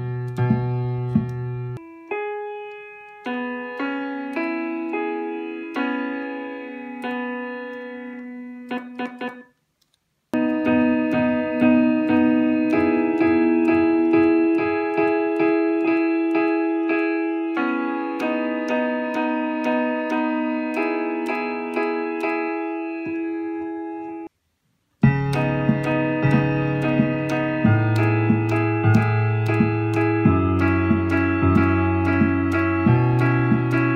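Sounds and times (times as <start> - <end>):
piano chords: 0.0 - 9.6, 10.4 - 24.3, 25.0 - 33.9.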